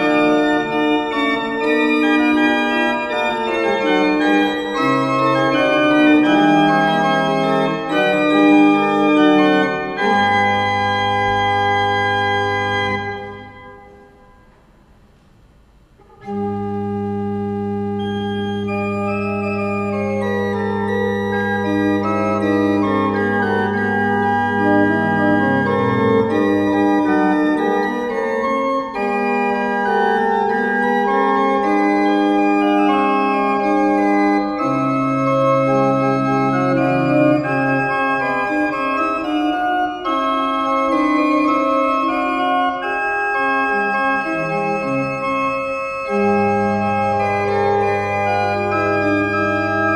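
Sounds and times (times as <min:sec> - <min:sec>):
organ playing slow chords: 0:00.0 - 0:14.5, 0:16.0 - 0:49.9.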